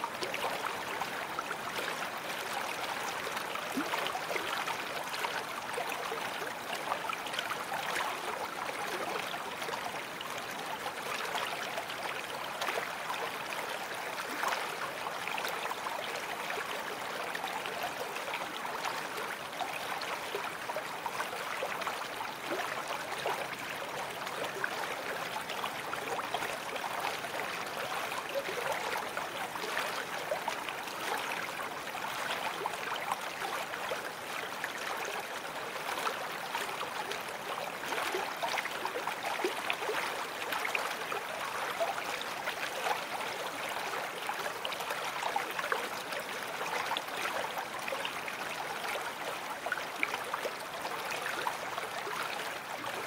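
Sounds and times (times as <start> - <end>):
brook water running: 0.0 - 53.0.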